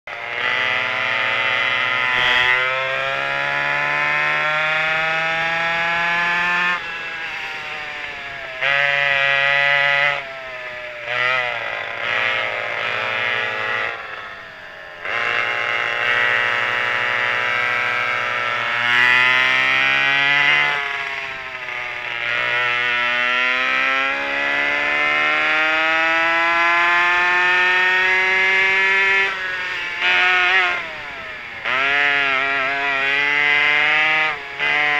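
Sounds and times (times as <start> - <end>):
kart engines revving: 0.1 - 34.9.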